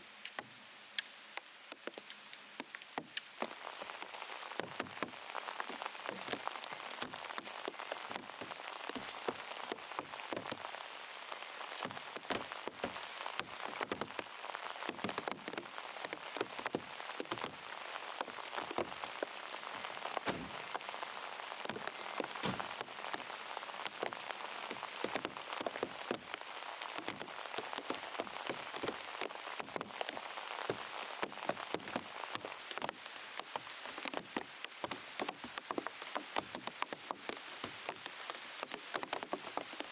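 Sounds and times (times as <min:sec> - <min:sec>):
rain tapping on plastic sheet: 0:00.2 - 0:39.9.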